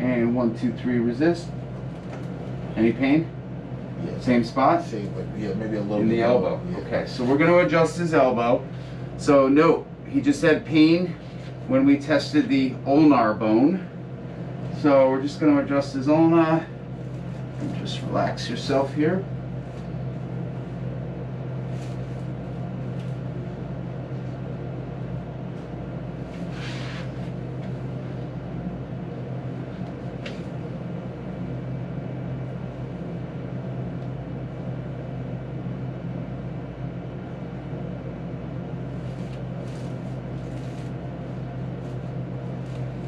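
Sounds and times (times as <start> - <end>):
low background hum: 0.0 - 43.0.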